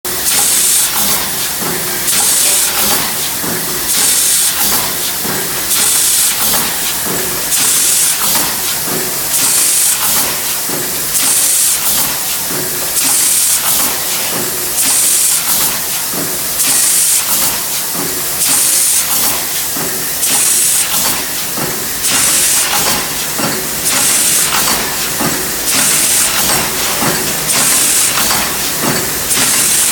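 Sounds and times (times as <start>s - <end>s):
air hiss bursts: 0.3s - 3.0s, 3.8s - 12.4s, 13.0s - 14.2s, 14.8s - 29.9s.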